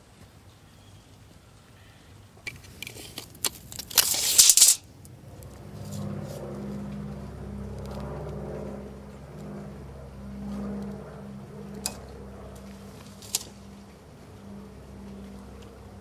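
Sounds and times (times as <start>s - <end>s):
crackling and rustling pine straw: 2.5s - 11.9s, 12.5s - 16.0s
steady low hum: 2.5s - 16.0s.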